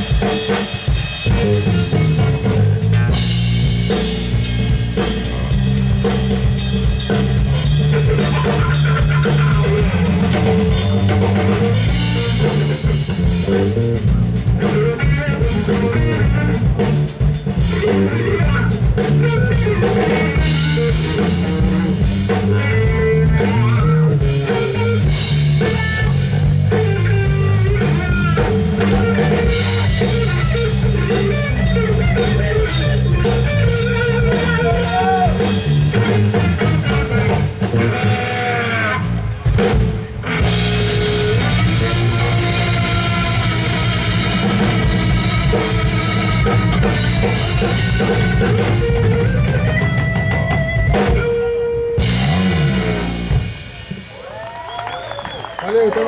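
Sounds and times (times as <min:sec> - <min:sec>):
electric bass: 0:00.0 - 0:55.4
drum kit: 0:00.0 - 0:56.0
electric guitar: 0:00.0 - 0:56.0.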